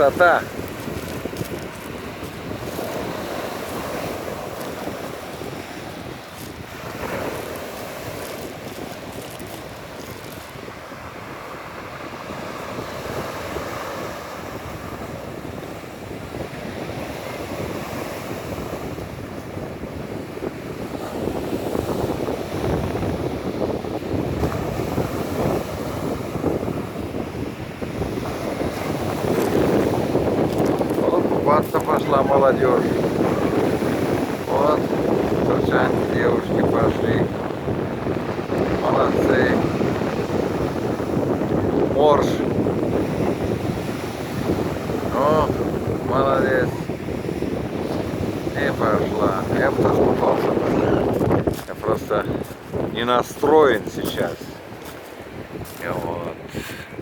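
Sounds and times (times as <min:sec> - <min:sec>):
waves breaking on shore: 0:00.0 - 0:57.0
wind buffeting microphone: 0:00.0 - 0:57.0.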